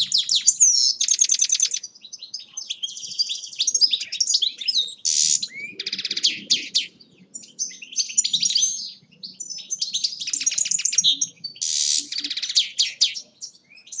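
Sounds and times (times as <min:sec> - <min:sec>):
goldfinch singing: 0:00.0 - 0:14.0.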